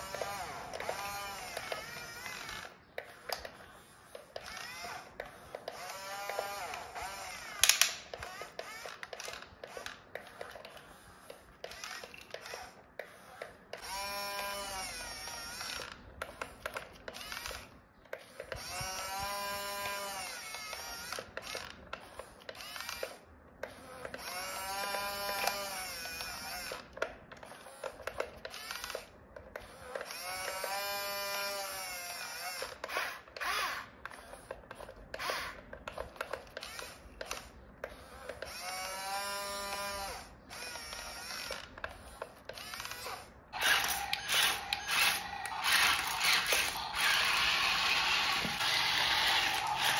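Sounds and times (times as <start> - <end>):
toy electric motors whining: 0.0 - 49.9.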